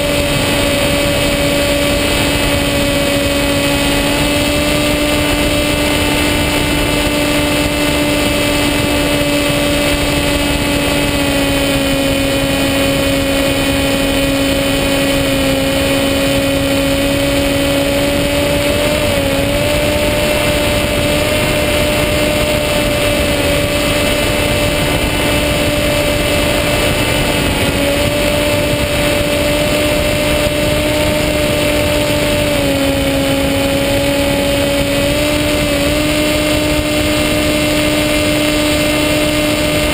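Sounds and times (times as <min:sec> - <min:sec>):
electric motor propeller whine: 0:00.0 - 0:39.9
rushing wind noise: 0:00.0 - 0:39.9.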